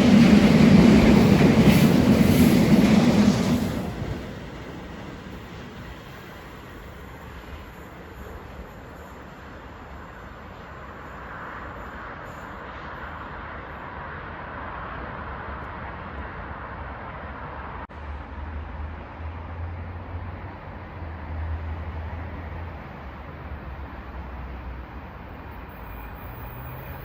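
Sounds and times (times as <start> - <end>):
train wheels rushing on rail: 0.0 - 17.2, 19.2 - 27.0.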